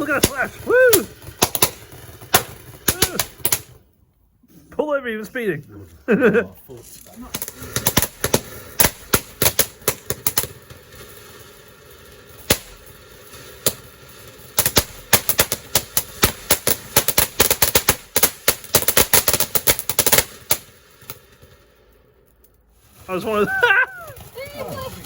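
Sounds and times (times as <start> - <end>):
fireworks bangs and crackle: 0.0 - 4.0, 4.8 - 25.0.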